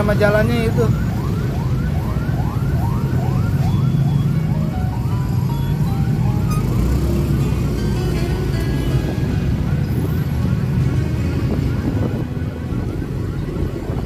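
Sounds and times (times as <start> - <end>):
emergency siren yelping: 0.0 - 14.0
motorcycle and traffic engines rumbling: 0.0 - 14.0.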